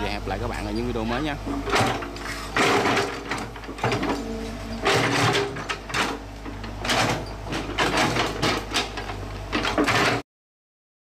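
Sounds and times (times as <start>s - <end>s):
excavator diesel engine: 0.0s - 10.2s.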